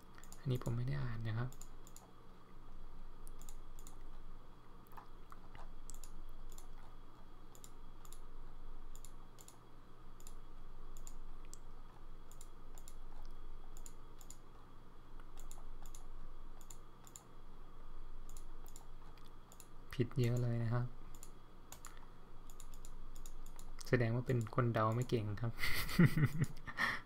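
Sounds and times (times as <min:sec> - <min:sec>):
computer mouse clicking: 0:00.0 - 0:17.4, 0:18.2 - 0:25.3
faint low hum: 0:00.0 - 0:27.0.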